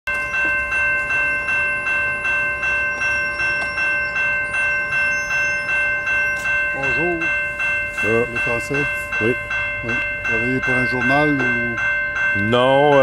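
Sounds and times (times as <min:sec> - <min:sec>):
railway crossing bell ringing: 0:00.1 - 0:13.0.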